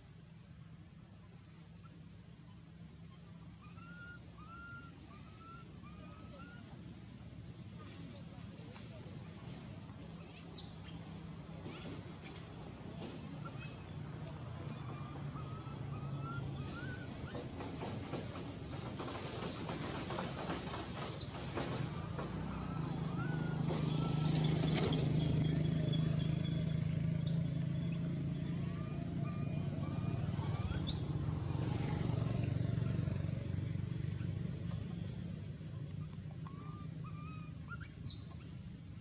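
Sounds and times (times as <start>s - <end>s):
vehicle engine humming: 0.0s - 39.0s
small birds chirping: 1.2s - 39.0s.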